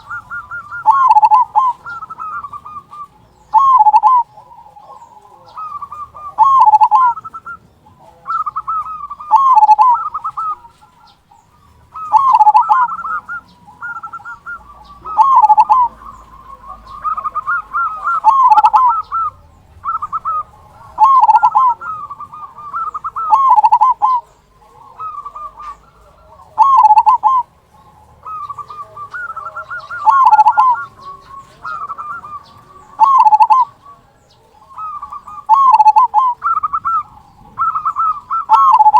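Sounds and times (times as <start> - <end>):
dove warbling coos: 0.0 - 38.9.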